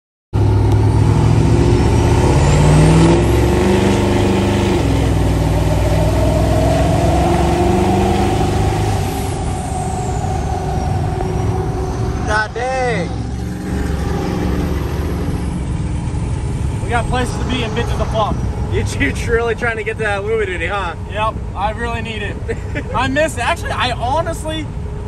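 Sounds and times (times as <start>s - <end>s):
rising whine: 0.4s - 21.5s
diesel truck engine driving: 0.4s - 25.0s.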